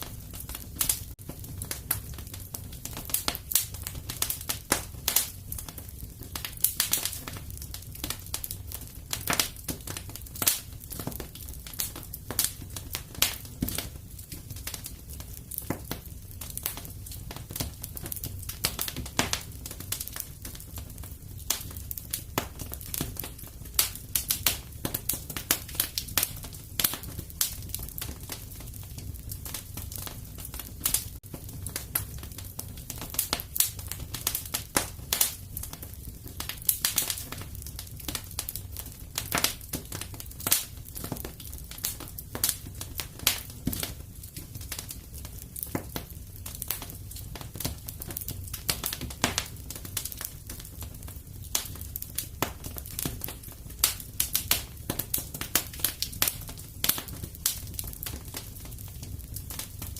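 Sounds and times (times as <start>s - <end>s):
low fire rumble: 0.0s - 59.9s
wood fire crackling and popping: 0.0s - 59.9s.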